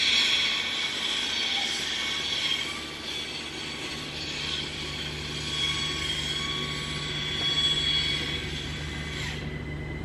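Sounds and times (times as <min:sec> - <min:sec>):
train hissing on rails: 0:00.0 - 0:10.0.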